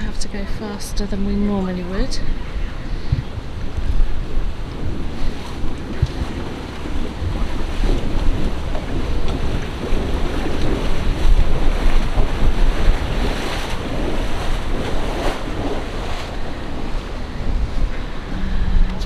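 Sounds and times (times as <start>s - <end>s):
water pouring with low rumble: 0.0s - 19.0s
wind buffeting microphone: 0.0s - 19.0s.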